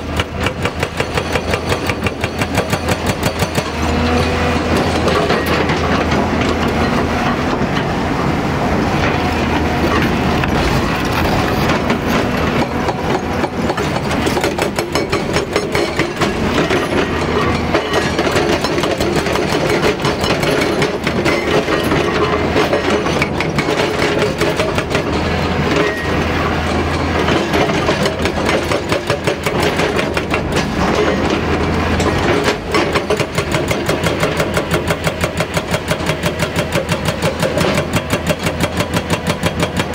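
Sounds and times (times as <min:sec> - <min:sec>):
hydraulic rock breaker hammering: 0:00.0 - 0:08.0, 0:09.0 - 0:39.9
diesel engine running: 0:00.0 - 0:39.9.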